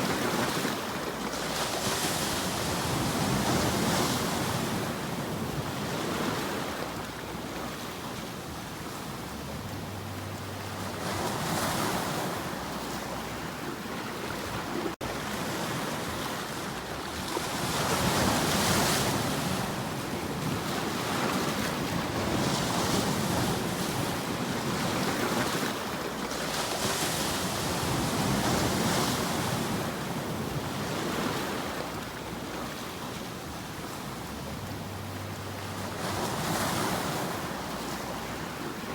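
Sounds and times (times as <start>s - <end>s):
ocean waves washing onto shore: 0.0s - 38.9s.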